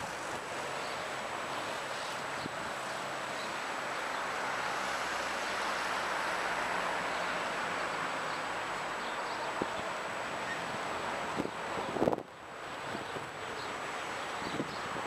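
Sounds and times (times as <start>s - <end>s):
rushing wind: 0.0s - 15.0s.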